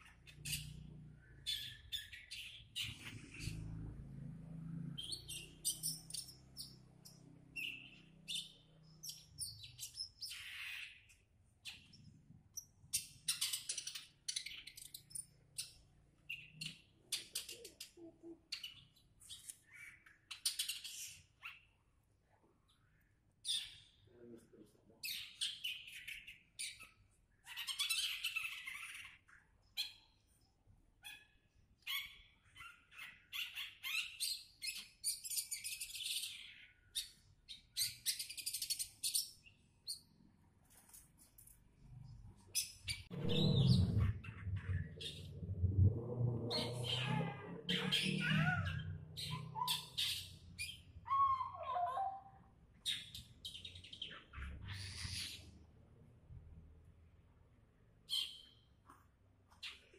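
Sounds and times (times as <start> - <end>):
songbird chirping and trilling: 0.0 - 40.2, 41.8 - 57.2, 58.0 - 58.8.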